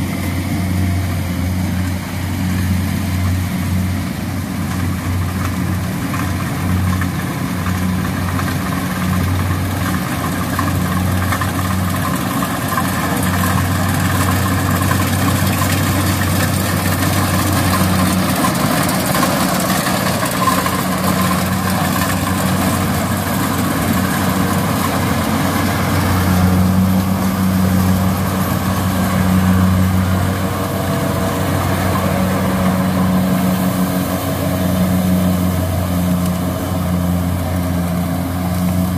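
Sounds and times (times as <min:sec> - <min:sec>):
combine harvester engine: 0:00.0 - 0:38.9
threshing machinery running: 0:00.0 - 0:38.9.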